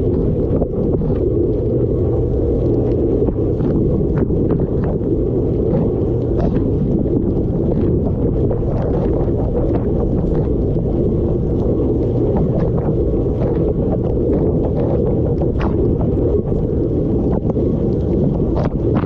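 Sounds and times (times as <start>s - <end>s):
circulation pump running: 0.0s - 19.0s.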